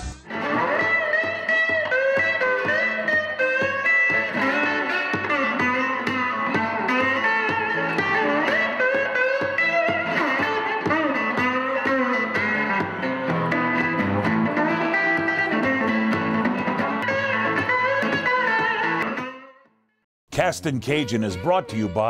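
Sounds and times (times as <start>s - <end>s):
electric guitar theme music: 0.0s - 19.8s, 20.4s - 22.0s.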